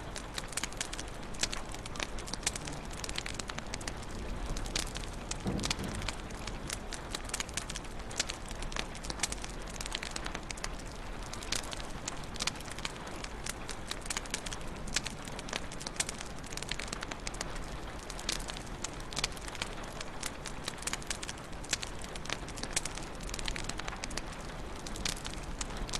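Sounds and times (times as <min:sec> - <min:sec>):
hiss and rumble of flames: 0:00.0 - 0:25.9
wood fire crackling and popping: 0:00.0 - 0:25.9.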